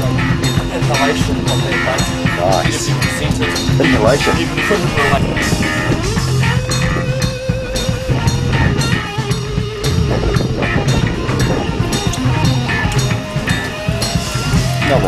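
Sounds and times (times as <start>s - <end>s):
rock music with drums and guitar: 0.0s - 15.0s.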